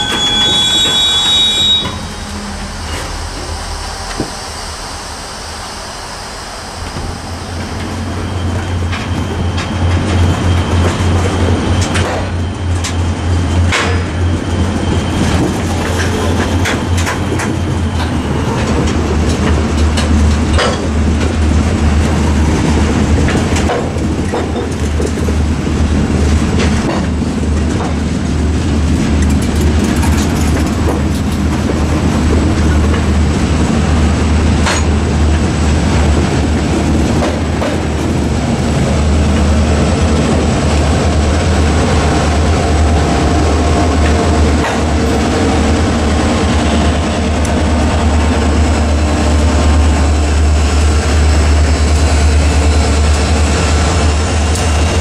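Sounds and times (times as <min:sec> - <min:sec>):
freight train rumbling past: 0:00.0 - 0:55.0
wheels clanking over rail joints: 0:06.8 - 0:33.4, 0:34.6 - 0:55.0.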